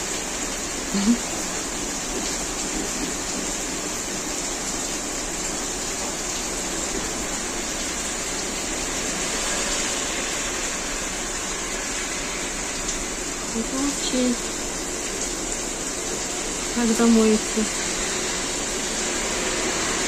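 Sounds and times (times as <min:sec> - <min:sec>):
heavy rain on asphalt: 0:00.0 - 0:20.0.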